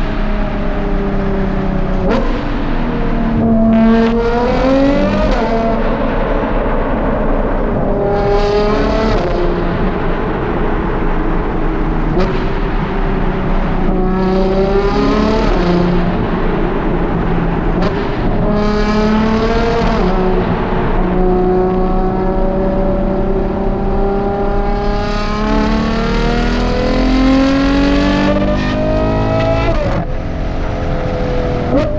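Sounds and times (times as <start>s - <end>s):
car engine accelerating hard: 0.0s - 31.9s.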